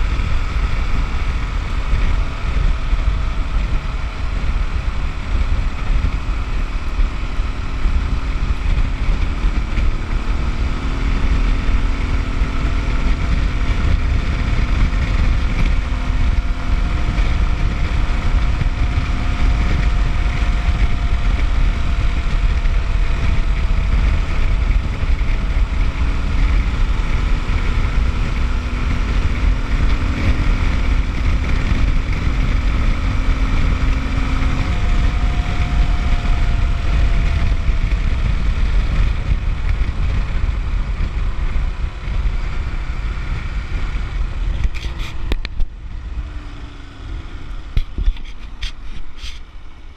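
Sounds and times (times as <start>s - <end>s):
motorcycle engine running: 0.0s - 49.9s
wind noise on microphone: 0.0s - 49.9s.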